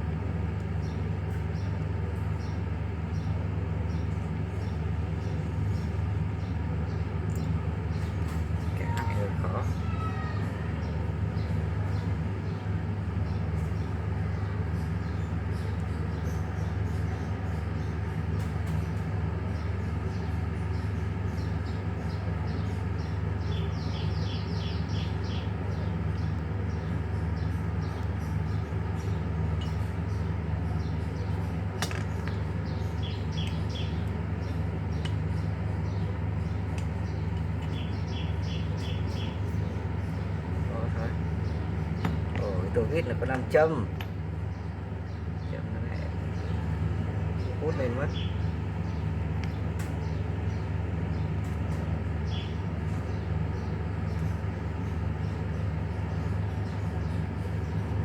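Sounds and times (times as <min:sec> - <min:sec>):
steady low hum: 0:00.0 - 0:58.0
bird chirp trills: 0:00.2 - 0:58.0.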